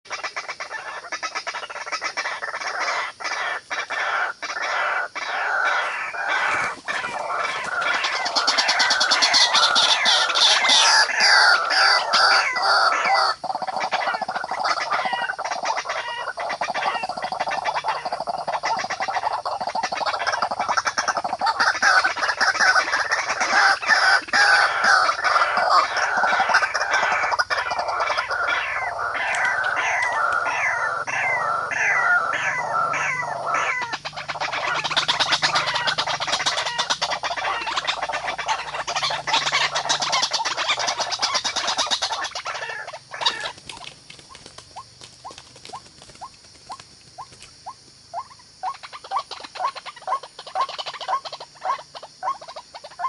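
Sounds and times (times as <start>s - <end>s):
flock of birds calling: 0.1s - 53.0s.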